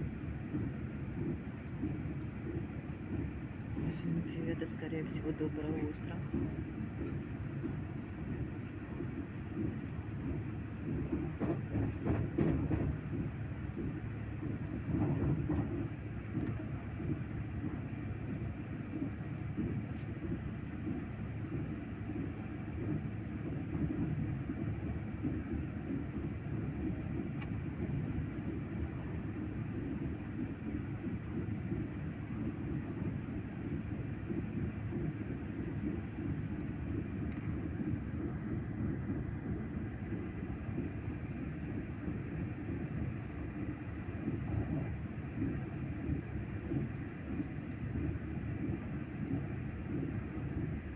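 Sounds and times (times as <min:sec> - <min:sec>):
train running: 0:00.0 - 0:50.9.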